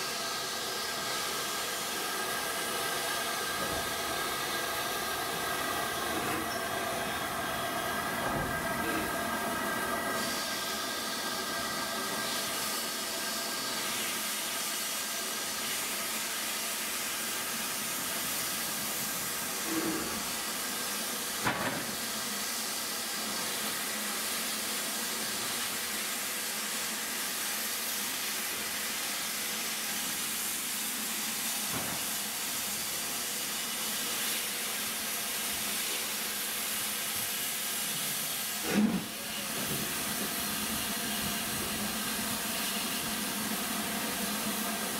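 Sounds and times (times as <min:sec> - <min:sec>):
steam hissing from locomotive: 0:00.0 - 0:44.9.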